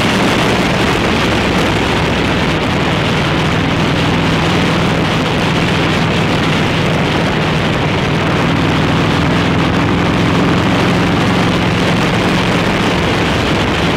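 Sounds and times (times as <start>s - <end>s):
motorcycle engine running: 0.0s - 13.9s
wind rush on microphone: 0.0s - 13.9s.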